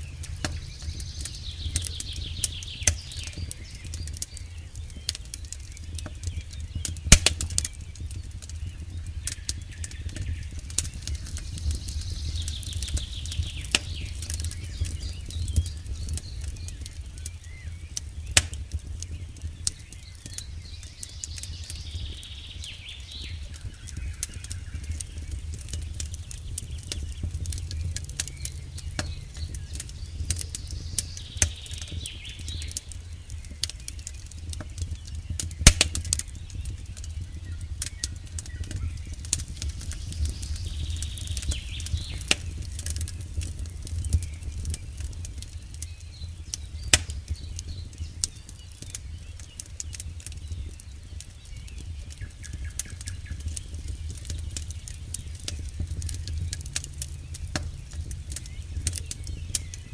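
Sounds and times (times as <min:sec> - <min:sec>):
low rumble: 0:00.0 - 0:19.4, 0:20.4 - 0:48.1, 0:51.8 - 0:59.9
campfire crackling: 0:00.0 - 0:59.9.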